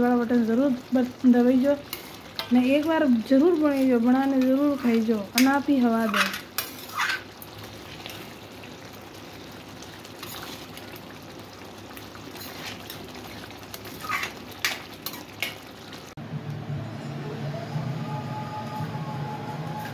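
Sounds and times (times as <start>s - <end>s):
curry simmering and sizzling: 0.0s - 17.2s.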